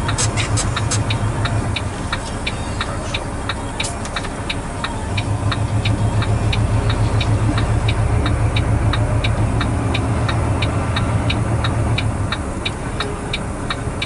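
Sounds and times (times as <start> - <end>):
sharp rhythmic clicking: 0.0 - 13.8
truck engine droning: 0.0 - 14.0.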